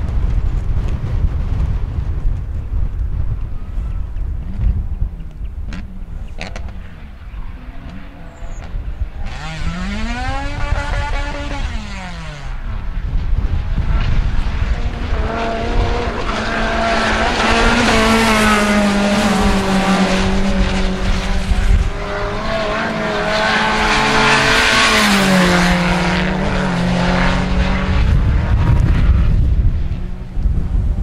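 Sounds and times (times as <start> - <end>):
race car engines revving: 3.7 - 31.0.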